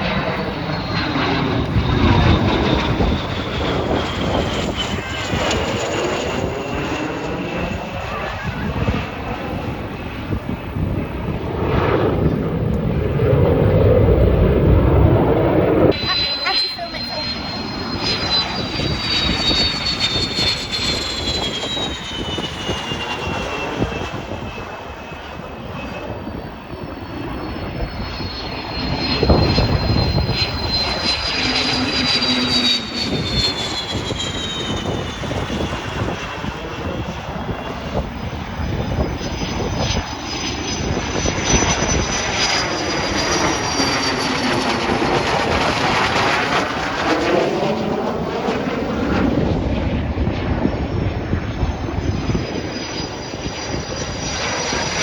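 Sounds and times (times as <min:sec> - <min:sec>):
aircraft engine rush with whine: 0:00.0 - 0:55.0.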